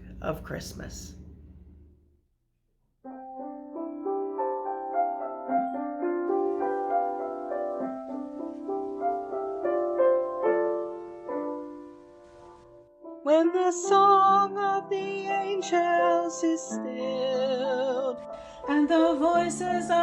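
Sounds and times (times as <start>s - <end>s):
slow piano chords: 3.1s - 20.0s.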